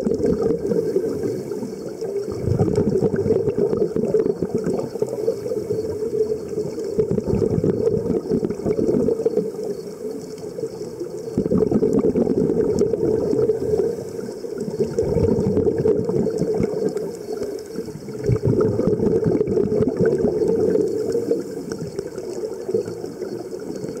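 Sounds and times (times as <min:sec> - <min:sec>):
underwater bubbles gurgling: 0:00.0 - 0:24.0.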